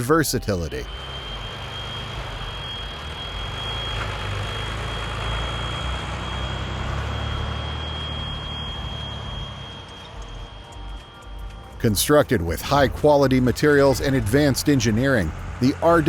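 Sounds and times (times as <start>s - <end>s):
constant high whine: 0.0s - 16.0s
heavy machine engine rumble: 0.0s - 16.0s.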